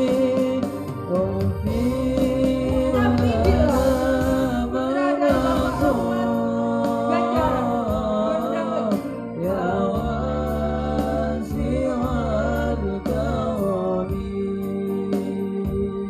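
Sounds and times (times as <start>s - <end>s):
light ticking beat: 0.0s - 15.8s
instrumental accompaniment: 0.0s - 16.0s
men singing: 0.0s - 16.0s.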